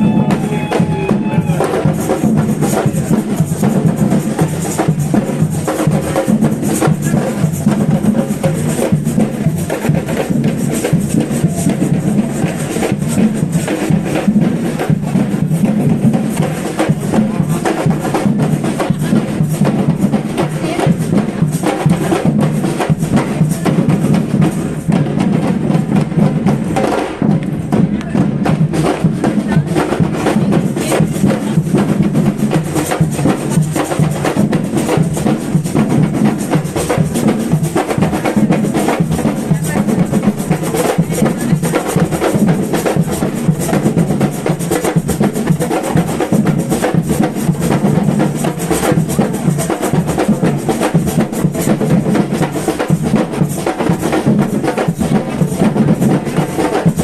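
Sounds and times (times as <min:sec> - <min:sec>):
drums playing: 0:00.0 - 0:57.0.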